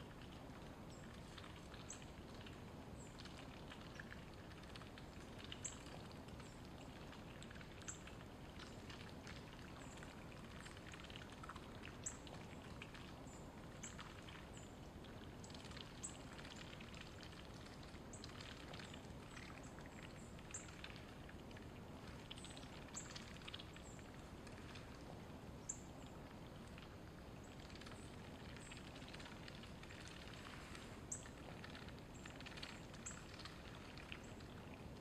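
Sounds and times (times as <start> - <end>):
ducks dabbling in water: 0.0 - 35.0.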